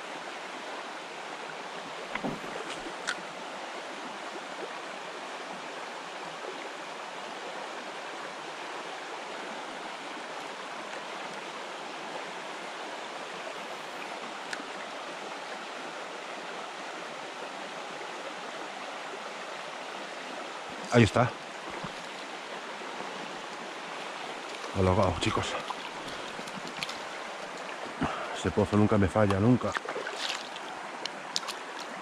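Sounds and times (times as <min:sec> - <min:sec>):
river current rushing: 0:00.0 - 0:32.0.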